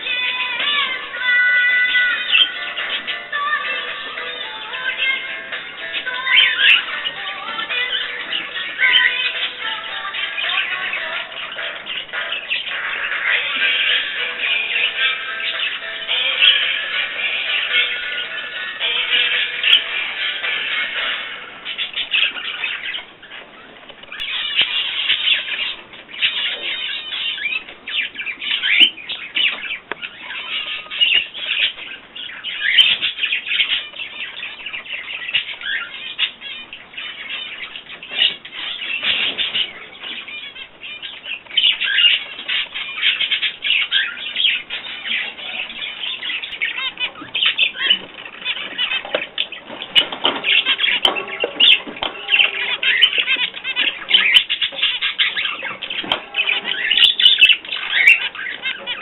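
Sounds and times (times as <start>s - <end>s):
birds chirping and chattering: 0.0s - 59.0s.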